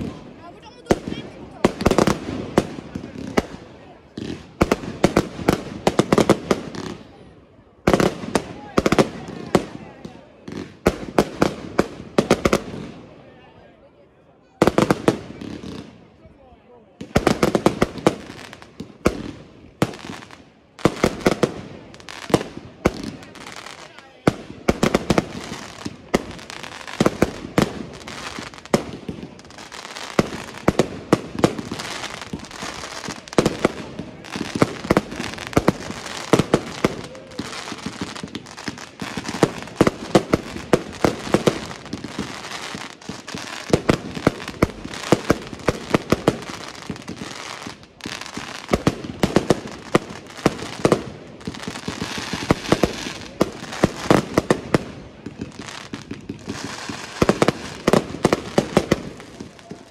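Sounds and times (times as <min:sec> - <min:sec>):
fireworks bangs: 0:00.0 - 0:13.2, 0:14.6 - 0:16.2, 0:16.9 - 0:59.9
fireworks crackle and hiss: 0:00.0 - 0:13.3, 0:14.6 - 0:59.9.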